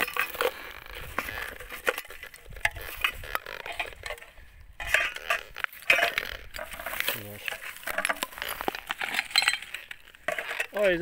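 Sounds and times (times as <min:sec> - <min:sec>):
scrap metal clinking and rattling: 0:00.0 - 0:11.0.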